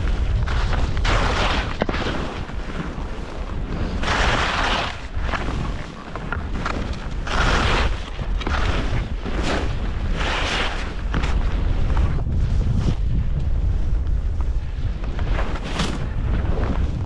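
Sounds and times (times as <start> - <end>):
skis scraping over snow: 0.0 - 17.0
wind rumble on microphone: 0.0 - 17.0.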